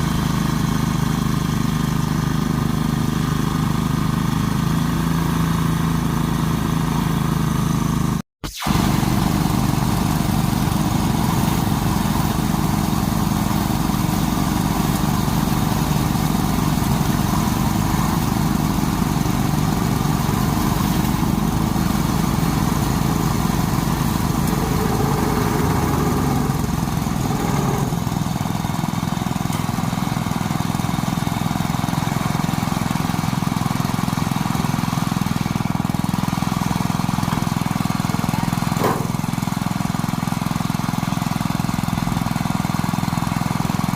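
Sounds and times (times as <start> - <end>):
small engine humming: 0.0 - 43.9.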